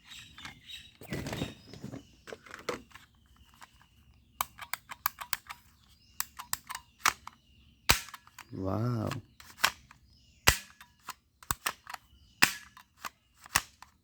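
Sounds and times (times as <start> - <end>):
plastic toy rifle rustling: 0.1 - 7.4, 8.0 - 10.0, 10.6 - 14.0
sharp plastic clicks: 2.3 - 14.0.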